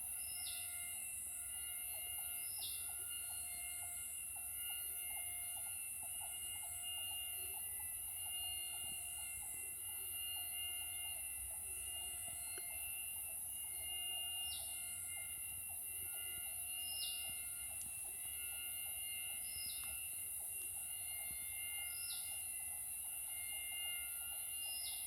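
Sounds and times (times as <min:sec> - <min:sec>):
high-pitched insect whine: 0:00.0 - 0:25.0
lower insect drone: 0:00.0 - 0:25.0.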